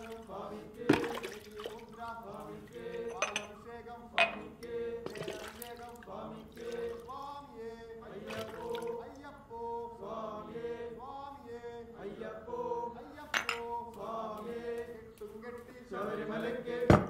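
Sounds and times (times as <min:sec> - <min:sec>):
group chanting devotional song: 0:00.0 - 0:17.0.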